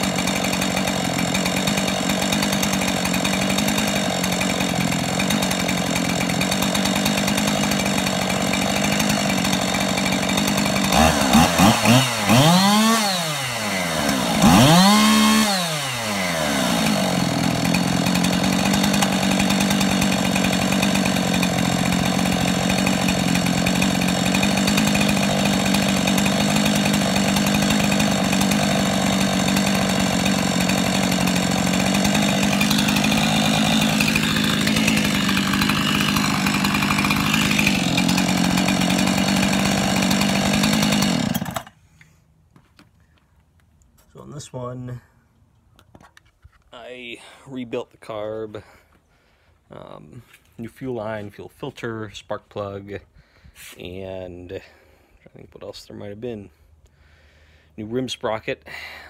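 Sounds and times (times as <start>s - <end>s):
chainsaw idling and revving: 0.0s - 42.2s, 49.7s - 52.9s, 53.7s - 59.0s.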